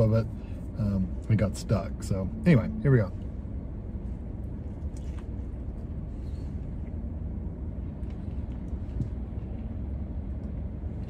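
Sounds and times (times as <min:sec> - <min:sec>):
low rumble inside car cabin: 0:00.0 - 0:11.0.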